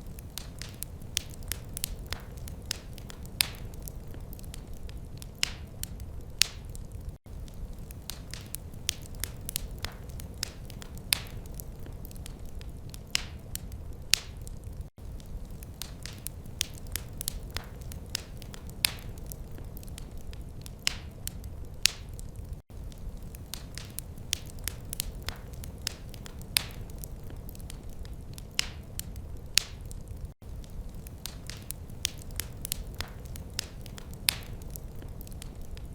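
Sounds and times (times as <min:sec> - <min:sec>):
low rumble of flames: 0:00.0 - 0:35.9
wood fire crackling and popping: 0:00.0 - 0:35.9.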